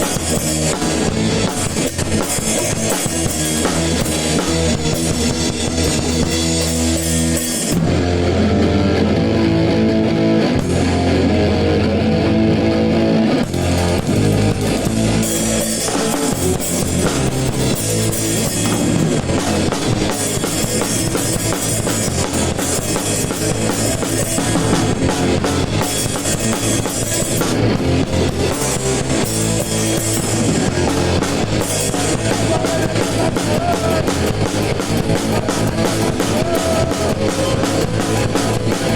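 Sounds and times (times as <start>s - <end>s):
drum kit beat: 0.0s - 11.7s, 13.1s - 38.9s
band playing ska: 0.0s - 38.9s
electric guitar: 0.0s - 38.9s.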